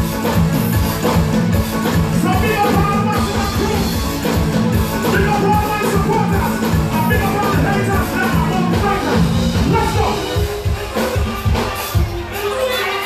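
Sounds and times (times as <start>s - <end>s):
live band playing soca: 0.0s - 13.0s.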